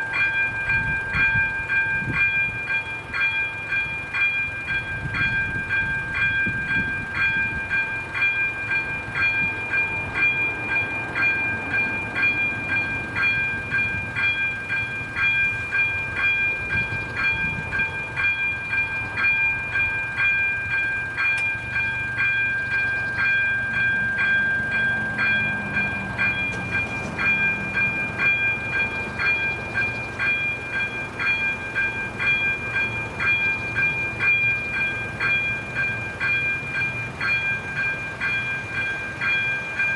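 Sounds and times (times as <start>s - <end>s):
electronic warning bell ringing: 0.0s - 39.9s
train rumbling past: 0.0s - 39.9s.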